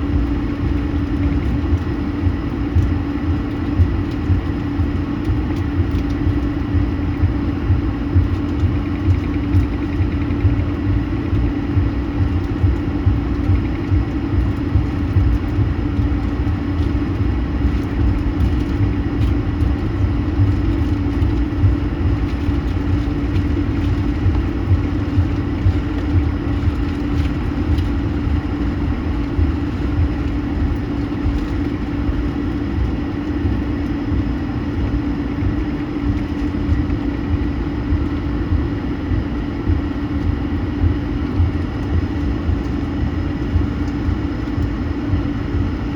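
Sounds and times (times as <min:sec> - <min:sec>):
jet engines heard from cabin: 0:00.0 - 0:45.9.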